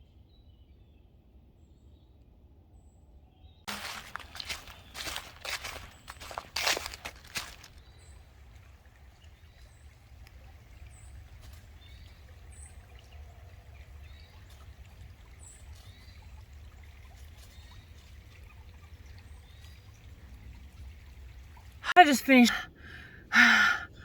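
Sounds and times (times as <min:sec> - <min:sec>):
running water in creek: 0:03.7 - 0:24.0.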